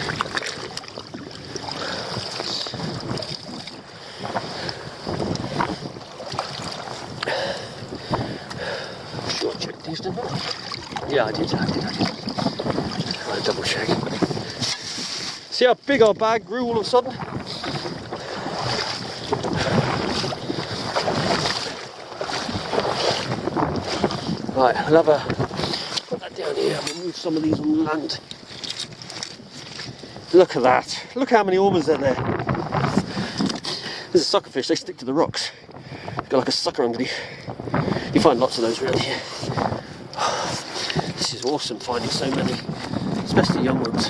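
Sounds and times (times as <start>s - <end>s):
seawater sloshing among rocks: 0.0s - 44.0s
wind buffeting microphone: 0.0s - 44.0s.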